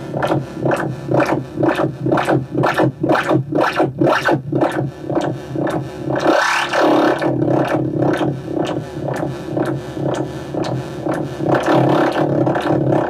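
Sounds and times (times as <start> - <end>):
low held synth tones: 0.0 - 13.0
rapid filtered synth pulses: 0.0 - 13.0.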